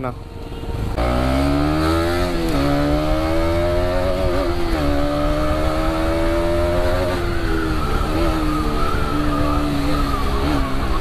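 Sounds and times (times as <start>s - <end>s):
motorcycle engine accelerating: 0.9s - 11.0s.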